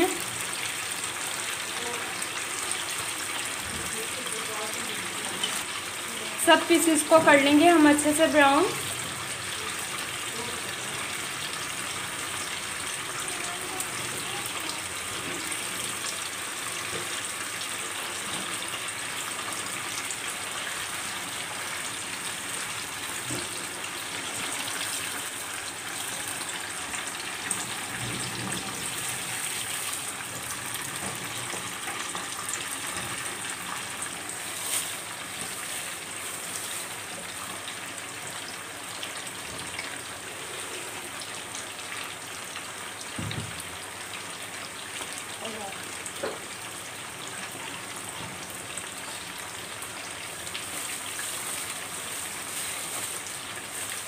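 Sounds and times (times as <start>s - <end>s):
chicken sizzling in hot oil: 0.0s - 54.0s.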